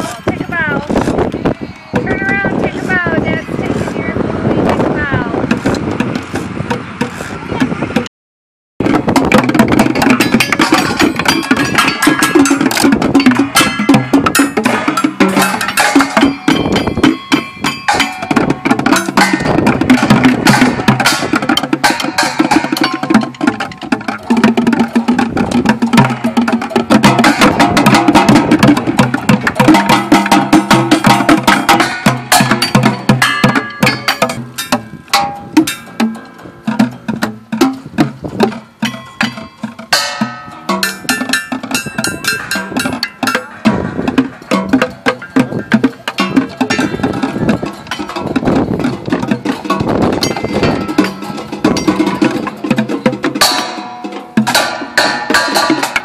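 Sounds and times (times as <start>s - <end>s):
percussion hits with pitched ring: 8.9s - 56.0s.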